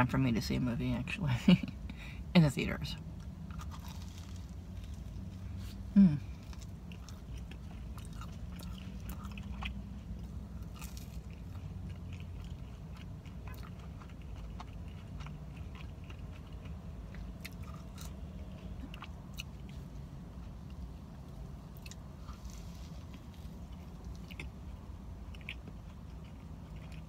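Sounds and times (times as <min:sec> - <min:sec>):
steady low hum: 0:00.0 - 0:27.0
crunchy chewing: 0:03.2 - 0:27.0.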